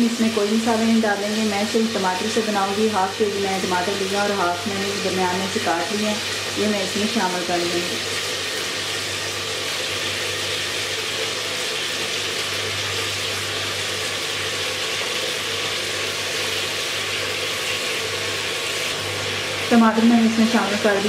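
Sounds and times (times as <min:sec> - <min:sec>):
beef sizzling in oil: 0:00.0 - 0:21.0.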